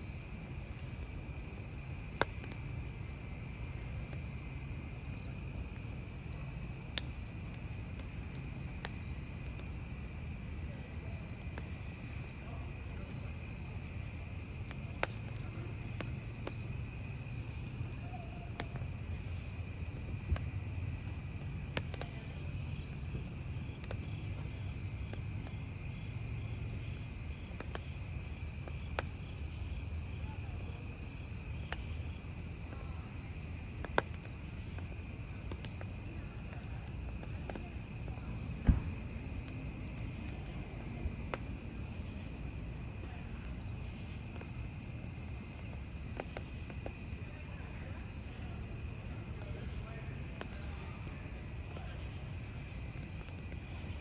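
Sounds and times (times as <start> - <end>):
campfire crackling and popping: 0.0 - 54.0
crickets trilling: 0.0 - 54.0.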